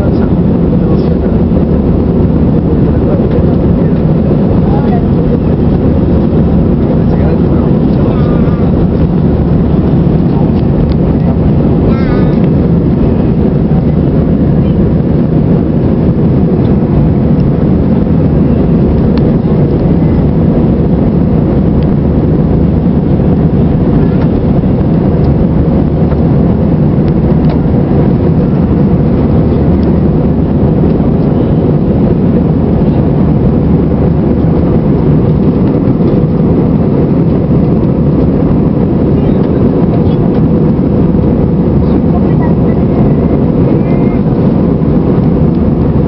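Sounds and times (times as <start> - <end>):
jet airliner cabin drone: 0.0 - 46.0.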